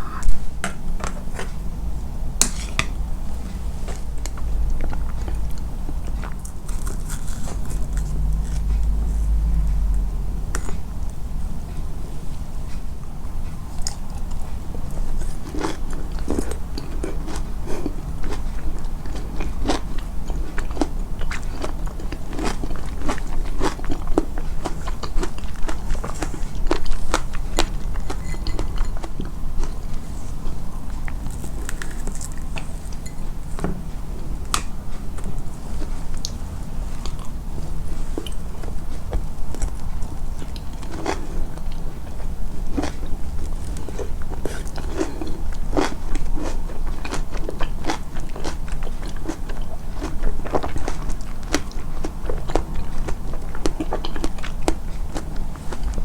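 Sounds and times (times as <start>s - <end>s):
person chewing crunchy food: 2.4s - 10.9s, 12.6s - 56.0s.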